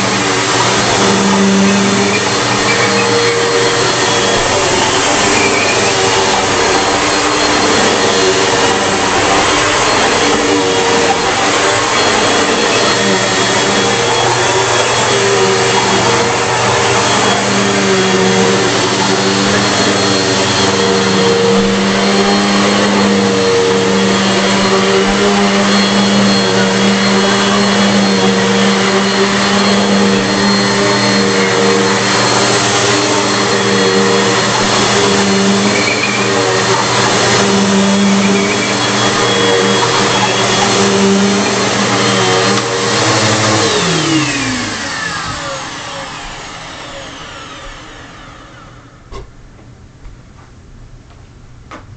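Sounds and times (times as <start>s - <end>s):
vacuum motor winding down: 0.0s - 49.2s
vacuum cleaner running: 0.0s - 49.7s.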